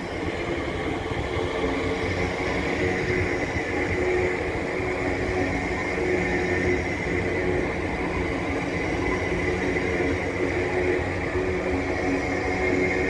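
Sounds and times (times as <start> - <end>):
train wheels rumbling on rail: 0.0 - 13.0
train whine: 0.0 - 13.0.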